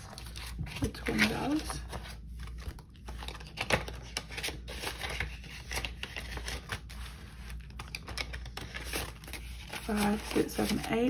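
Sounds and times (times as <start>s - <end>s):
paper money rustling: 0.0s - 11.0s
sharp paper crackle: 0.0s - 11.0s.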